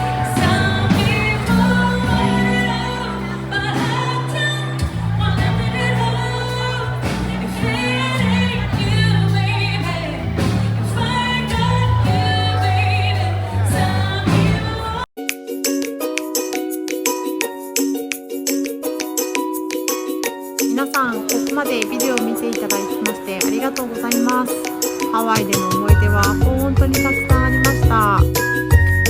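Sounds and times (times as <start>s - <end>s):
pop song with sung vocal: 0.0s - 15.1s, 20.5s - 29.0s
light music: 0.0s - 29.0s.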